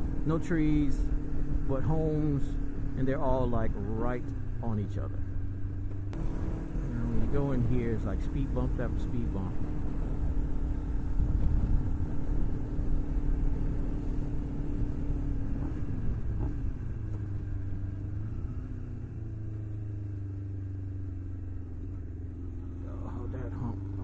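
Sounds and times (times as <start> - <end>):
wind rumble: 0.0 - 22.5
motorcycle engine running: 0.0 - 24.0.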